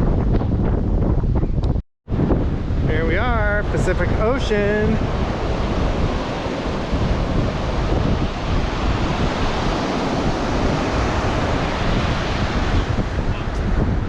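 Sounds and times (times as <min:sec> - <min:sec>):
wind buffeting microphone: 0:00.0 - 0:14.0
ocean surf washing onto beach: 0:02.1 - 0:14.0.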